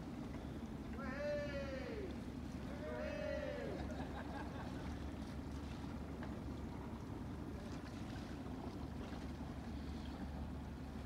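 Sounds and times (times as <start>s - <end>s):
diesel boat engine humming: 0.0s - 11.0s.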